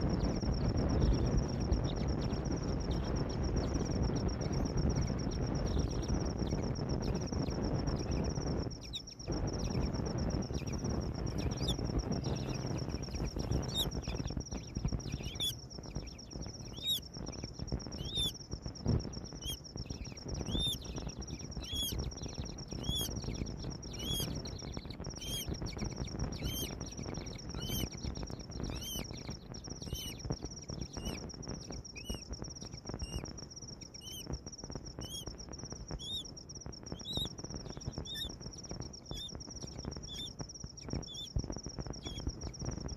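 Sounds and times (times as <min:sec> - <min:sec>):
low rumbling noise: 0:00.0 - 0:40.3
bird chirping: 0:00.0 - 0:42.9
high-pitched whine: 0:00.0 - 0:42.9.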